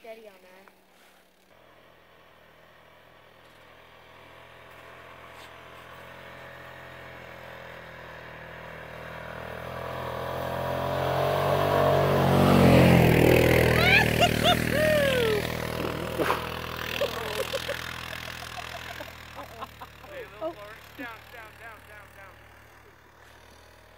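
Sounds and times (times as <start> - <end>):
quad bike engine running: 0.0 - 23.9.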